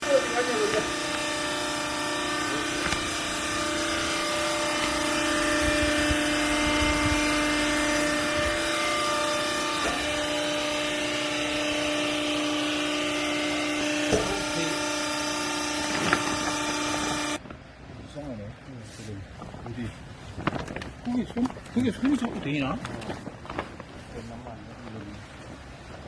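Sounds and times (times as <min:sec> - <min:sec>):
baler motor and pump hum: 0:00.0 - 0:26.0.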